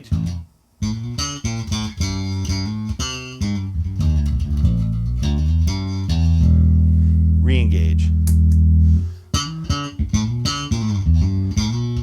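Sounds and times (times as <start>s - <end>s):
electric bass plucked notes: 0.0s - 12.0s.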